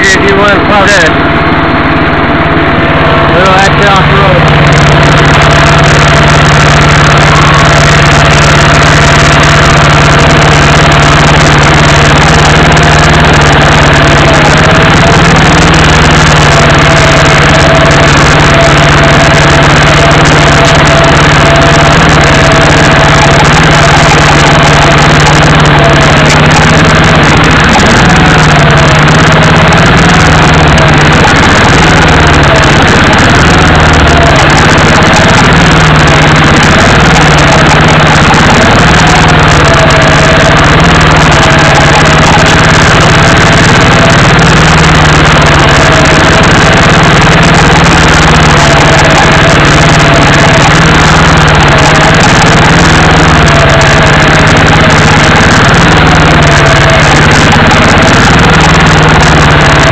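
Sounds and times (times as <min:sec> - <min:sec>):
faint wavering whine: 0:00.0 - 0:59.9
off-road vehicle engine running: 0:00.0 - 0:59.9.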